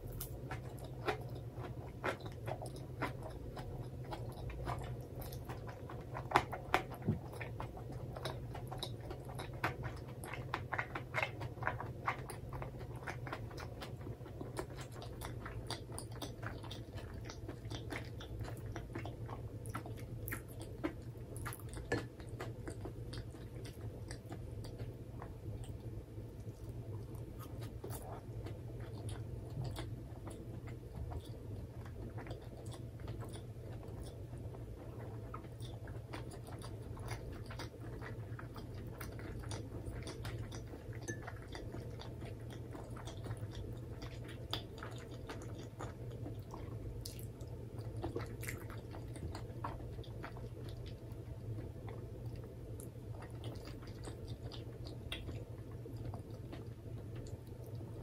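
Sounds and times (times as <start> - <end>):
close chewing with wet mouth sounds: 0.0 - 58.0.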